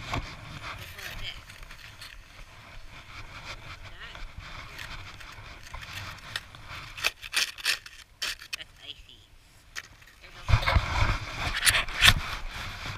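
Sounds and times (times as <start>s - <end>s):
plastic shovel scraping snow: 0.0s - 8.6s, 10.2s - 12.9s.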